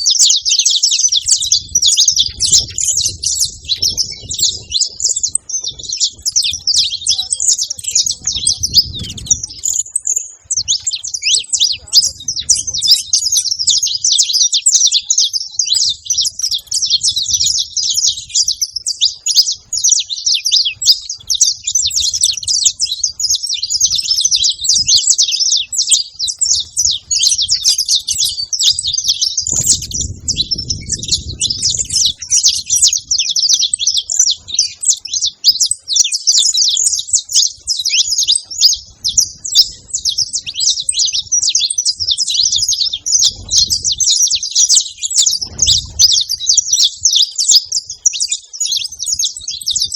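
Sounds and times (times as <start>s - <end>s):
finches chirping and singing: 0.0s - 49.9s.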